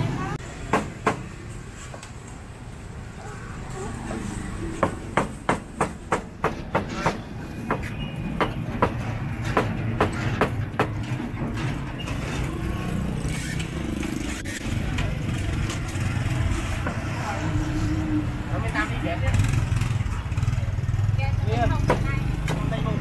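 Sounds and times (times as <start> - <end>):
low rumble of street traffic: 0.0 - 23.0.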